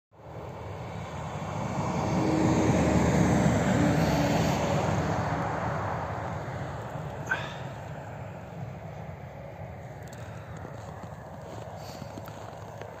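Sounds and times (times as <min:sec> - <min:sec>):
vehicle passing by: 0:00.2 - 0:13.0.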